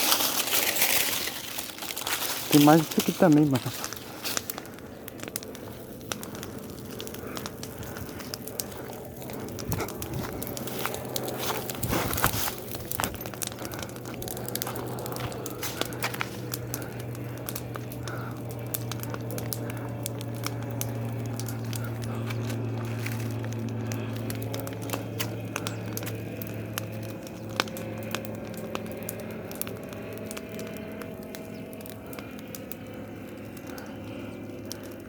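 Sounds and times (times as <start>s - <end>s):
bonfire crackling and popping: 0.0s - 35.0s
low hum: 0.0s - 35.0s.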